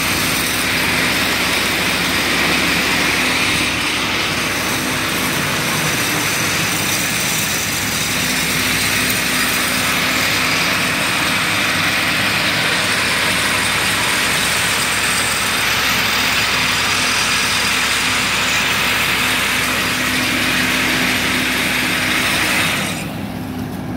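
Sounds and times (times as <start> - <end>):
engine running with hiss: 0.0 - 23.9.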